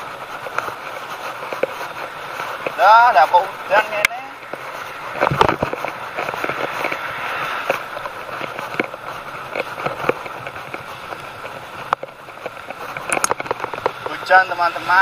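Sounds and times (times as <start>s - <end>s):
rushing air: 0.0s - 13.9s
bicycle tyres hissing on wet road: 0.0s - 15.0s
small ticks: 0.3s - 14.3s.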